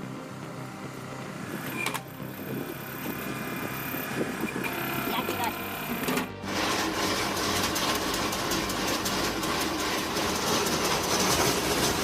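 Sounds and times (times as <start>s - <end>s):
wood-processing machine clattering: 1.4s - 12.0s.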